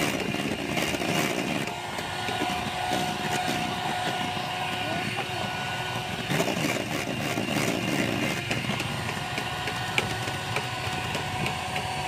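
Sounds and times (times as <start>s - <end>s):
small motor whining: 0.0s - 12.0s.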